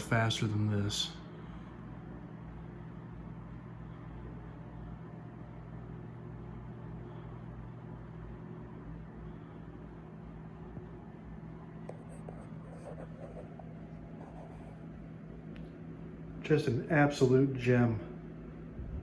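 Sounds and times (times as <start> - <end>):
table fan running: 0.0 - 19.0.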